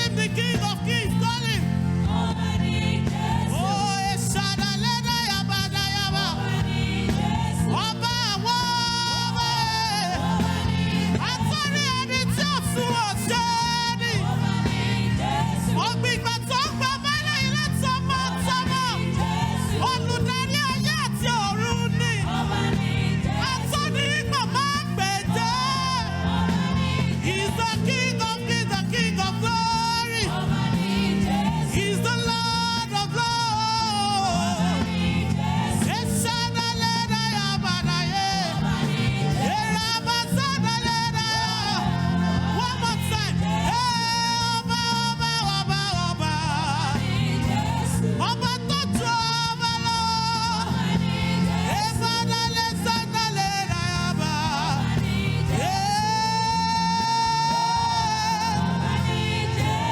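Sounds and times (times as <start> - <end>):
band with bass and beat: 0.0 - 59.9
group singing: 0.0 - 59.9.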